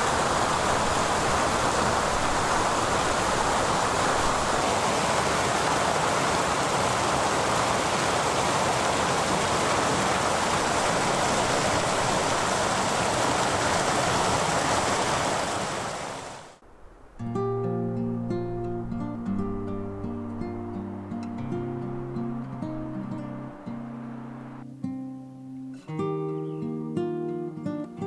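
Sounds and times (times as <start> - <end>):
waterfall pouring and splashing: 0.0 - 17.4, 19.5 - 24.6.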